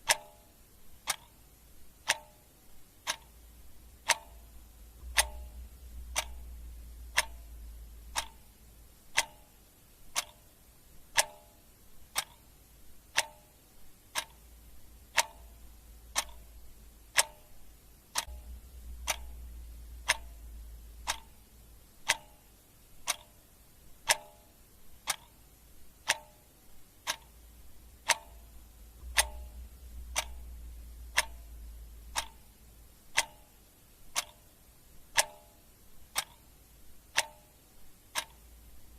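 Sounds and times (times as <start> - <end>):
mechanical clock ticking: 0.0 - 38.9.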